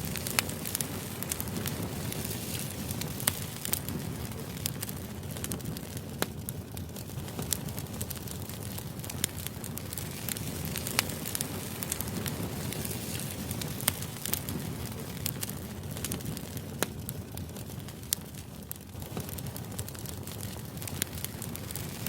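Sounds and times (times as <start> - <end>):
fire crackling with pops: 0.0 - 22.0.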